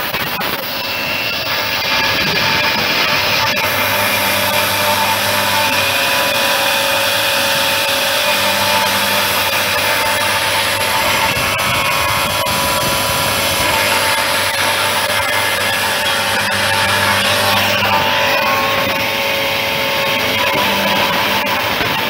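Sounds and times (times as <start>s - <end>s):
woodworking machine running: 0.0s - 22.0s.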